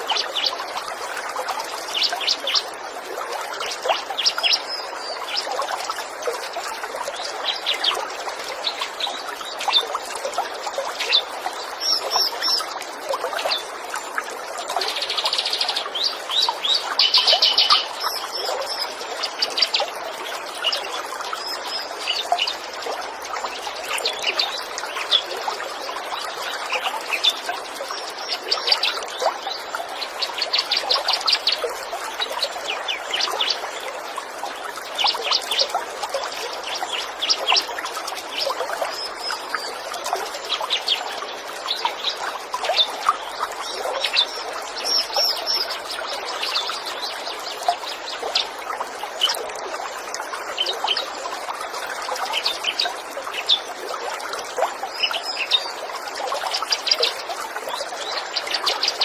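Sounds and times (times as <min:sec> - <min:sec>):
small songbirds chirping: 0:00.0 - 0:53.8
running stream: 0:00.0 - 0:59.0.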